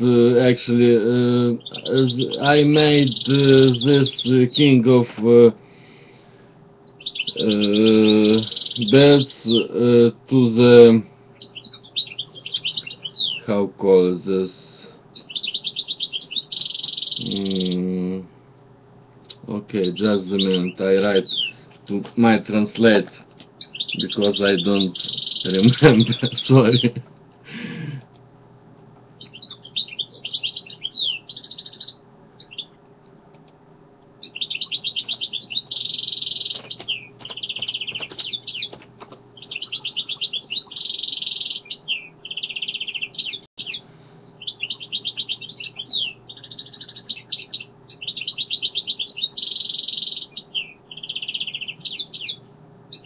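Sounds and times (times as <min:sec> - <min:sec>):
faint steady hum: 0:00.0 - 0:53.0
songbird chirping: 0:00.0 - 0:53.0.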